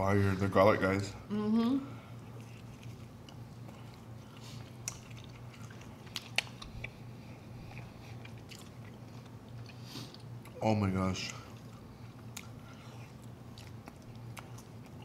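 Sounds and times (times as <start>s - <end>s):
low steady hum: 0.0s - 15.0s
wet chewing noises: 2.2s - 10.6s, 11.2s - 15.0s.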